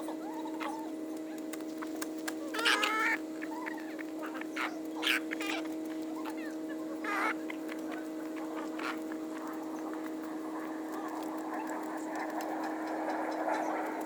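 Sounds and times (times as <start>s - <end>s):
steady low hum: 0.0s - 14.0s
poultry squawks: 1.8s - 14.0s.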